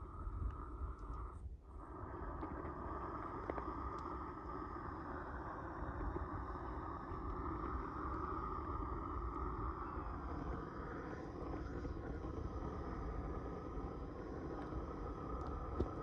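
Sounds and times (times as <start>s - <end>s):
propane torch burning: 0.0s - 16.0s.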